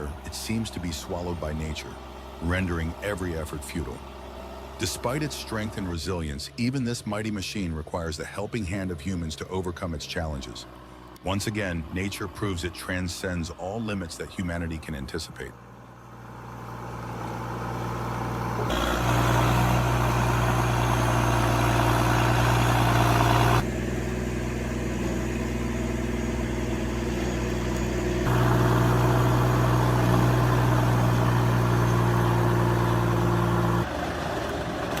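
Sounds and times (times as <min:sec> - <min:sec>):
heavy diesel machinery engines: 0:00.0 - 0:35.0.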